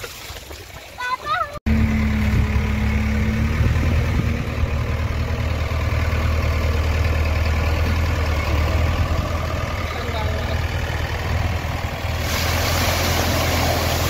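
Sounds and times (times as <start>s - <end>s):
diesel engine running: 1.7s - 14.0s.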